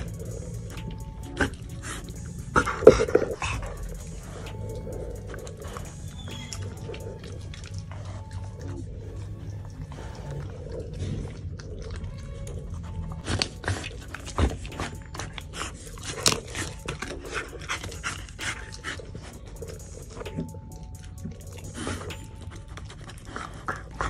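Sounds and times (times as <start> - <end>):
dog chewing and crunching bones: 0.0 - 24.0.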